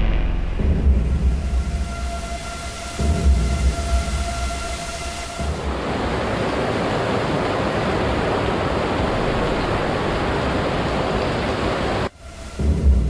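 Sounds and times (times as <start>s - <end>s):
heavy rain falling: 1.7s - 13.0s.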